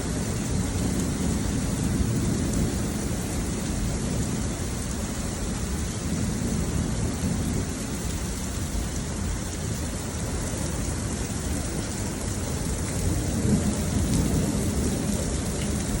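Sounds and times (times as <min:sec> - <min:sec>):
heavy rain pouring: 0:00.0 - 0:16.0
thunder rumble: 0:00.0 - 0:16.0.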